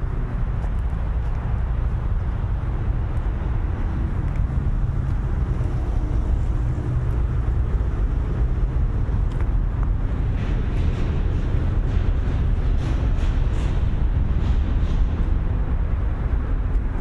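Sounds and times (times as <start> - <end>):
low rumble of night ambience: 0.0 - 17.0.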